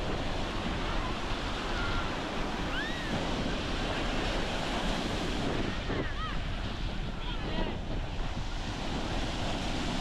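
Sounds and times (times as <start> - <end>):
ocean surf washing: 0.0 - 10.0
wind buffeting microphone: 0.0 - 10.0.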